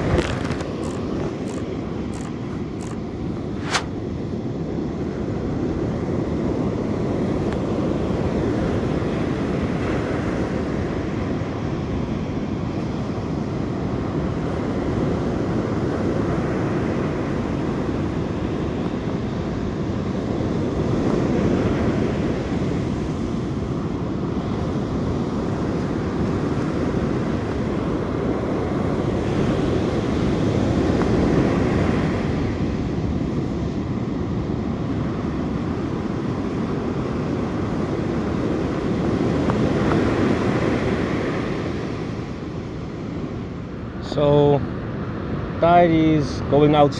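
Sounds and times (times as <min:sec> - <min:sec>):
waves breaking on beach: 0:00.0 - 0:46.9.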